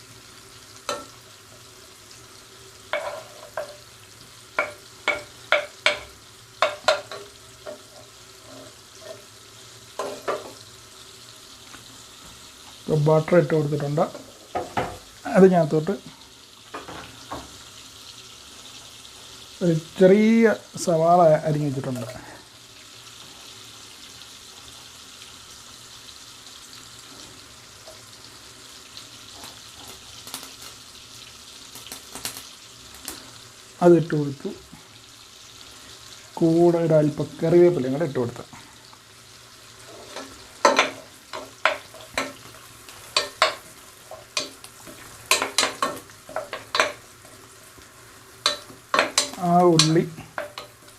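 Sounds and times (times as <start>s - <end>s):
butter sizzling in pot: 0.0s - 50.9s.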